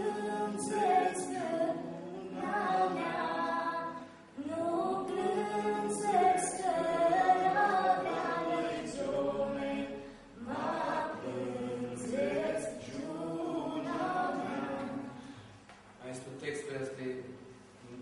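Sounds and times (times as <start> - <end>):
group singing unaccompanied: 0.0 - 15.5.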